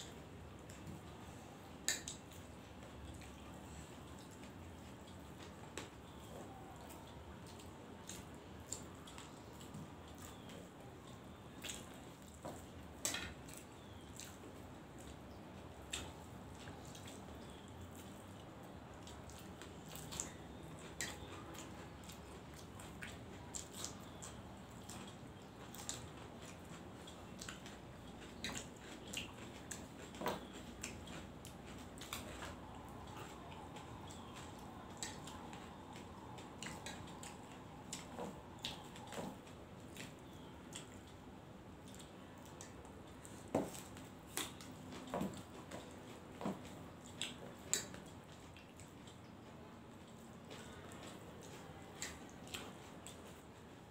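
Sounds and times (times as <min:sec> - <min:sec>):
people eating and chewing: 0:00.0 - 0:53.9.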